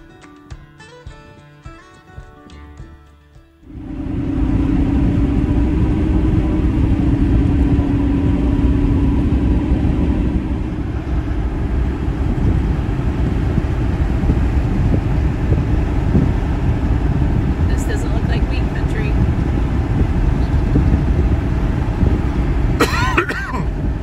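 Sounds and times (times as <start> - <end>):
low hum: 3.6 - 24.0
truck engine and road rumble: 3.6 - 24.0.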